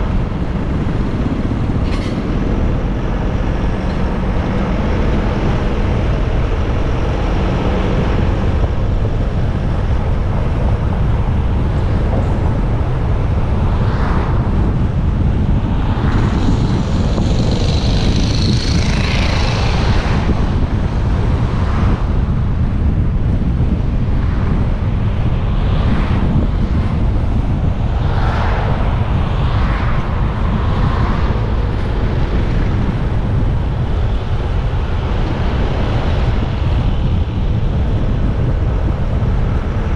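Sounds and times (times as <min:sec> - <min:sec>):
deep rumble: 0:00.0 - 0:39.9
passing vehicles: 0:00.0 - 0:39.9
wind and road noise: 0:00.0 - 0:39.9.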